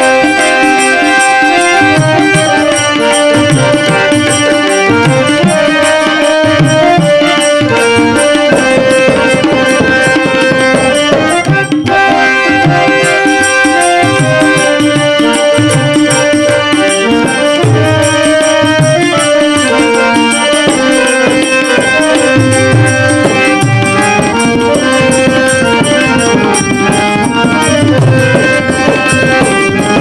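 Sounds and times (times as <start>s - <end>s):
harmonium melody: 0.0s - 30.0s
tabla rhythm: 0.0s - 30.0s.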